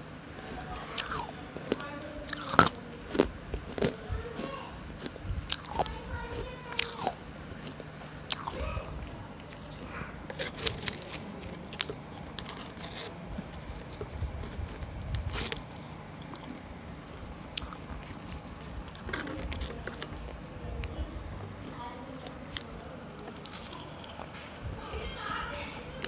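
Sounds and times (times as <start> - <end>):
crunching hard food: 0.3 - 21.0, 21.6 - 25.2.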